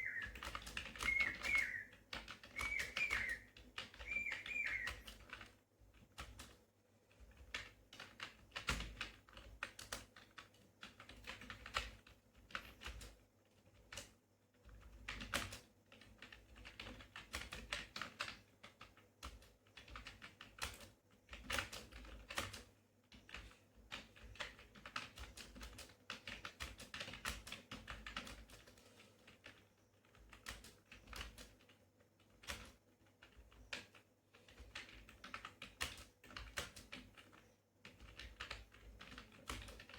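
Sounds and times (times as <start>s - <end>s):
keyboard keys clicking: 0.0s - 13.2s, 14.7s - 39.9s.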